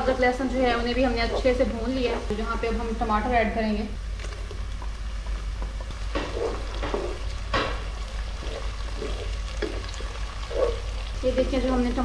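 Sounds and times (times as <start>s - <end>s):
tomatoes sizzling in a pan: 0.0s - 3.9s, 4.5s - 12.0s
steady low hum: 0.0s - 12.0s.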